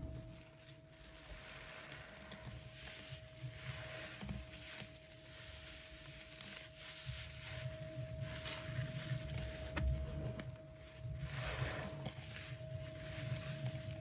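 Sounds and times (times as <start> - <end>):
squishing soap foam and sponge: 0.0 - 14.0.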